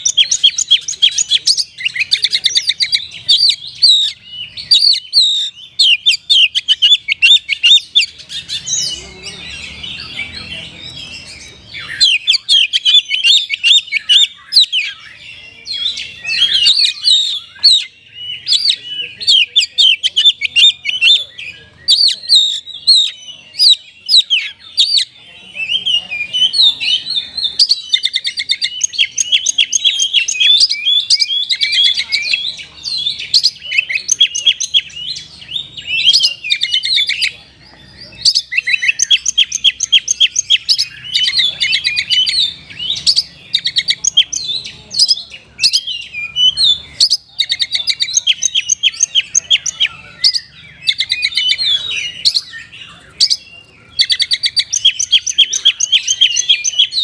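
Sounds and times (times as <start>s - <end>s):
bird singing trills and chirps: 0.0s - 57.0s.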